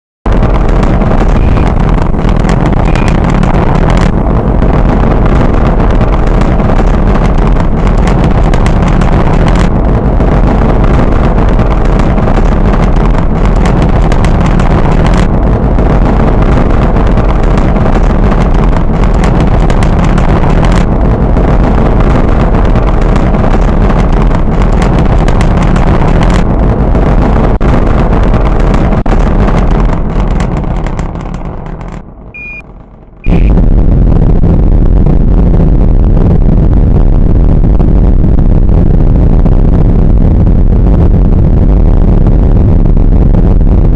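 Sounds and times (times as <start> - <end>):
rocket engine rumble: 0.2 - 43.9.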